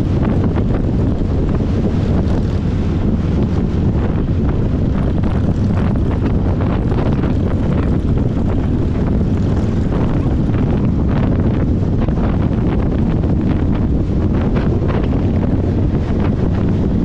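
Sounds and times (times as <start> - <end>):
vehicle running noise: 0.0 - 17.0
wind buffeting microphone: 0.0 - 17.0.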